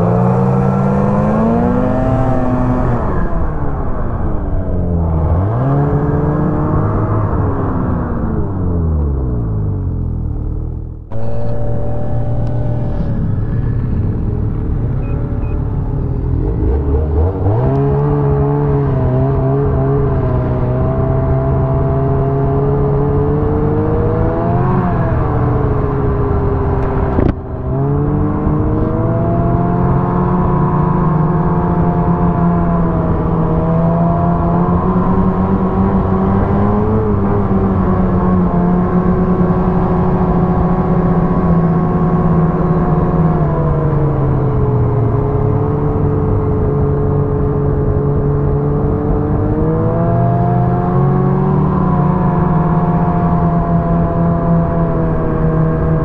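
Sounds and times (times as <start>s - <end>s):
snowmobile engine revving: 0.0s - 9.6s, 11.1s - 56.0s.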